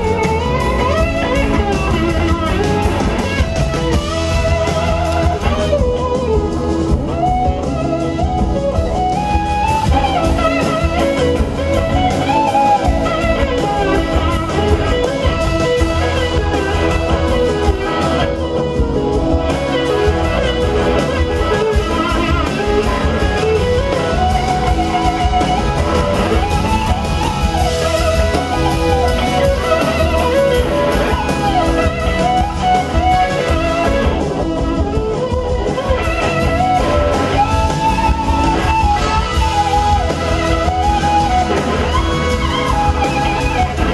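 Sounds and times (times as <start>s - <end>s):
blues rock band playing: 0.0s - 43.9s
electric slide guitar solo: 0.0s - 43.9s.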